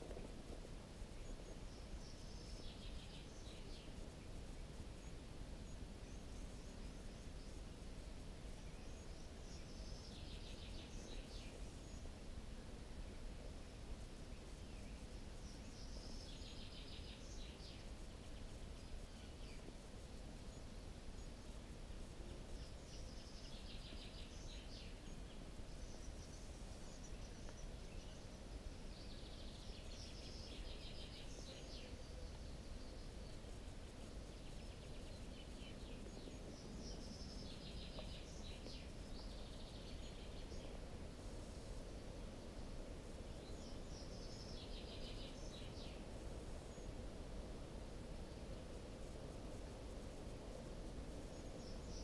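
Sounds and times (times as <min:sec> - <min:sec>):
outdoor background hiss: 0:00.0 - 0:52.0.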